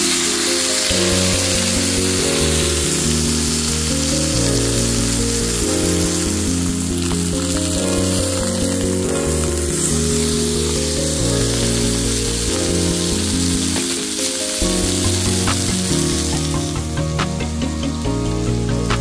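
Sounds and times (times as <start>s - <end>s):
background music: 0.0s - 19.0s
steak sizzling in a skillet: 0.0s - 19.0s.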